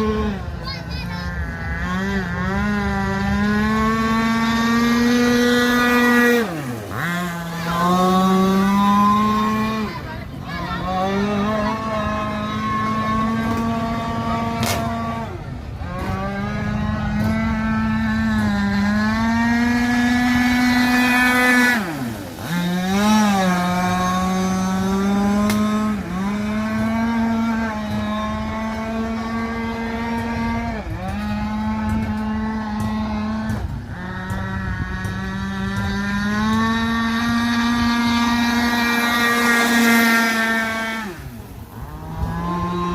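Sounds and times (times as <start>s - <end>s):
boat engine running at high revs: 0.0s - 42.9s.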